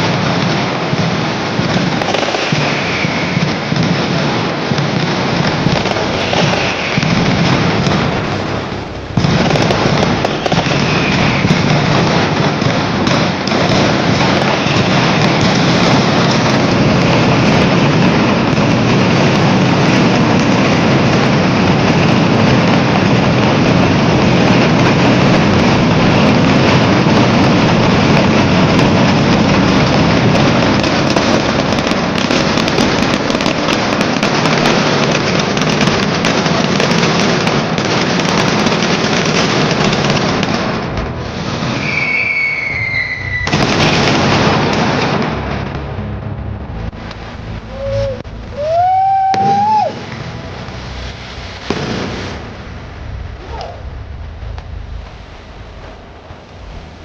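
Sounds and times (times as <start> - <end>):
firework bangers cracking: 0.0 - 57.0.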